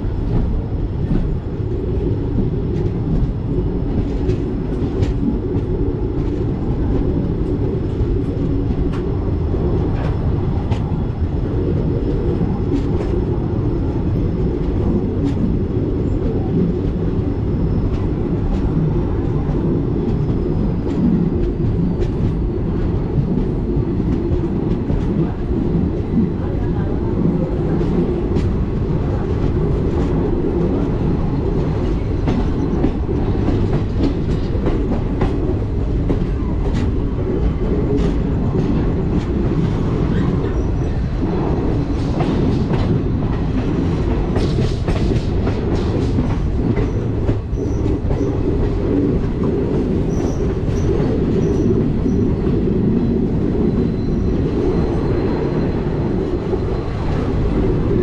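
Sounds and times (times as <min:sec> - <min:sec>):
rail joint clicks and knocks: 0:00.0 - 0:58.0
train wheels rumbling on rails: 0:00.0 - 0:58.0.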